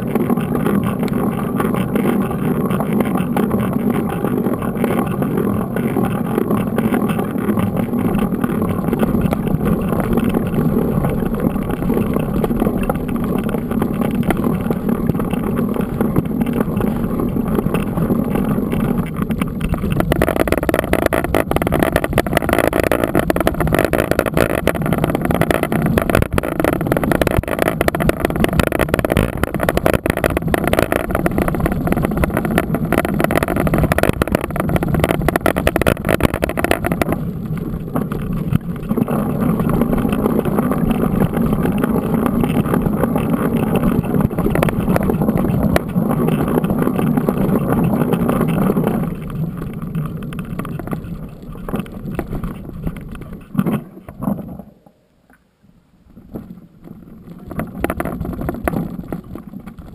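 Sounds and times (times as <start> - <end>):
bike knocks and rattles: 0.0 - 54.7, 56.2 - 59.9
wind on microphone: 0.0 - 54.7
tyres on loose dirt: 0.0 - 55.0, 56.2 - 59.9.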